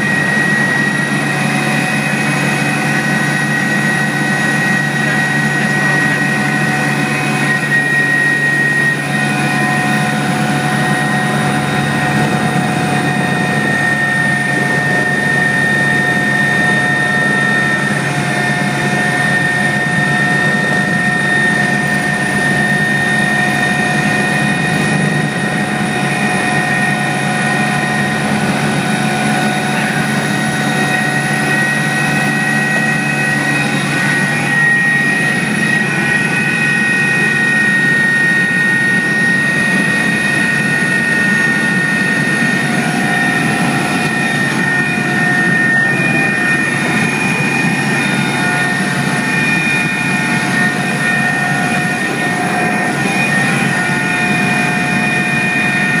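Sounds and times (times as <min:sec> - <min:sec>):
helicopter engine and rotor drone: 0:00.0 - 0:56.0
high-pitched whines: 0:00.0 - 0:56.0.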